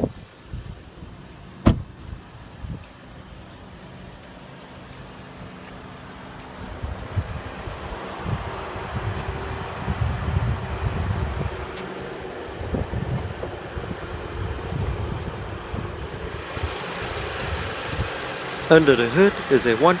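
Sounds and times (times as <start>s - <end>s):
car engine idling: 0.2s - 20.0s.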